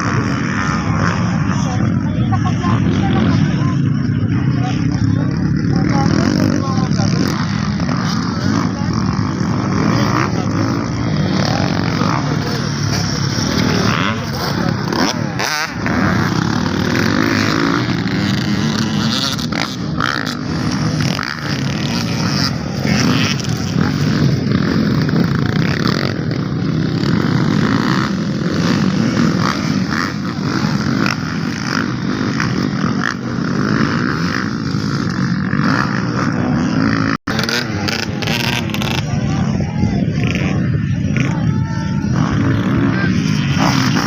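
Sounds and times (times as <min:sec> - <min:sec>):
motocross bike engines droning: 0:00.0 - 0:44.0.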